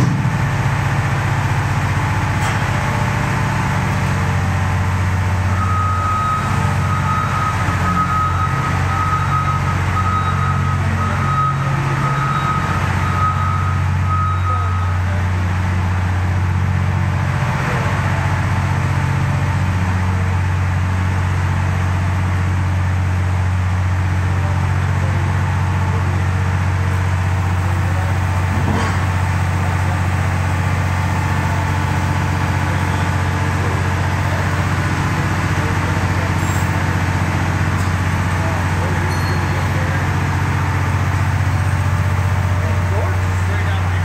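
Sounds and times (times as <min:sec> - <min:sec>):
diesel engine droning: 0:00.0 - 0:44.0.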